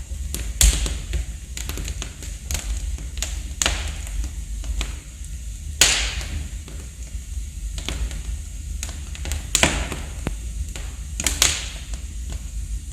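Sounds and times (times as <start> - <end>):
fire pops and snaps: 0.0 - 12.9
low steady rumble: 0.0 - 12.9
wood fire crackling: 0.0 - 12.9.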